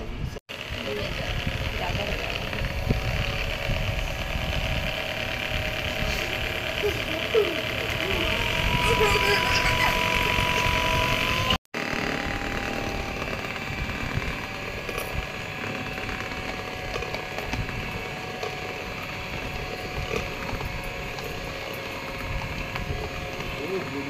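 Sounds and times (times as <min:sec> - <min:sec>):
electric hand mixer whining: 0:00.5 - 0:24.0.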